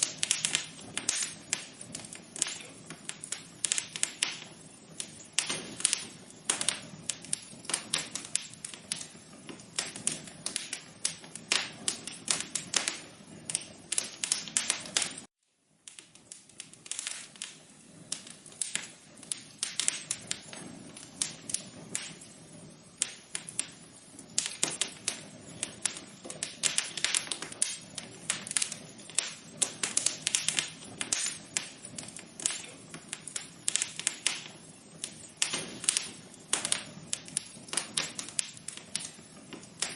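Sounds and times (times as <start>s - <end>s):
low hiss of burning logs: 0.0s - 39.9s
wood fire crackling: 0.0s - 39.9s.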